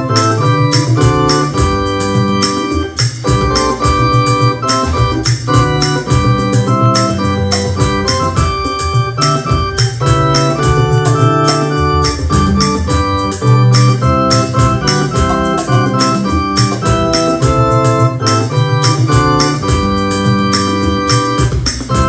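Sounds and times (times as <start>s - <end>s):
electronic keyboard playing hymn: 0.0s - 22.0s
steady ticking beat: 0.0s - 22.0s.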